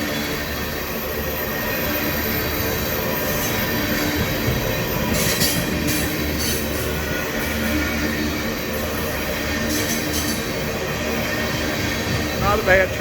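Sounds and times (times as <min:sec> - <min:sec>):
high wheel squeals: 0:00.0 - 0:13.0
train wheels rumbling on rails: 0:00.0 - 0:13.0.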